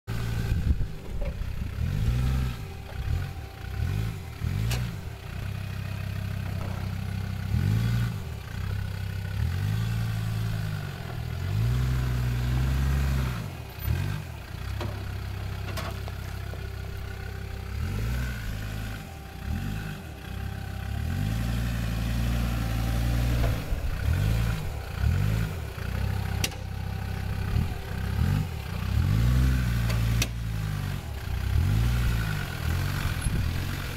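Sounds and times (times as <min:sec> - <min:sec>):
diesel engine revving under load: 0:00.0 - 0:33.9.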